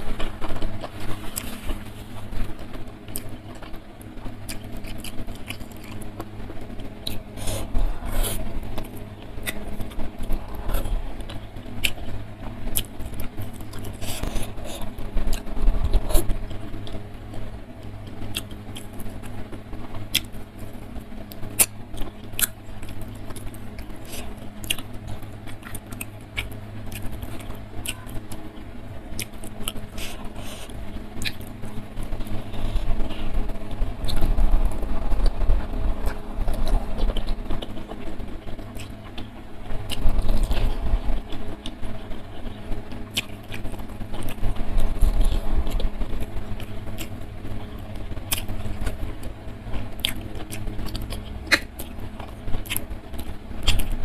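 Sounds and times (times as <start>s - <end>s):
chewing: 0.0s - 34.4s, 35.0s - 54.0s
steady low hum: 0.0s - 54.0s.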